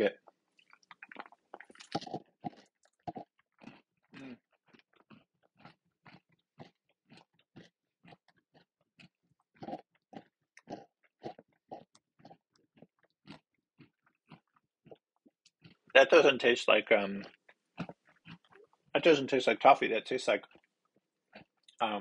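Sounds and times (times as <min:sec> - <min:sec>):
crunchy candy chewing: 0:00.1 - 0:16.3, 0:17.1 - 0:19.0, 0:20.3 - 0:22.0.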